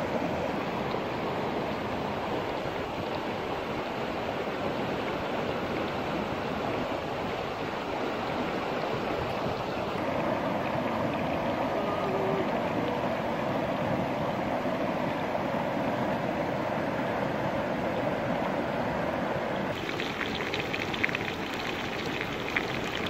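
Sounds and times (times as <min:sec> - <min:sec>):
stream rushing past rocks: 0:00.0 - 0:23.0.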